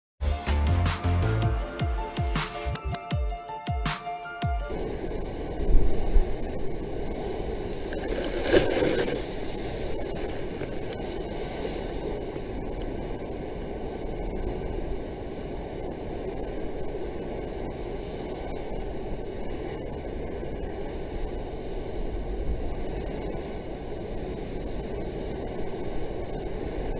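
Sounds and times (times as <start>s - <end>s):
wind: 2.5s - 26.9s.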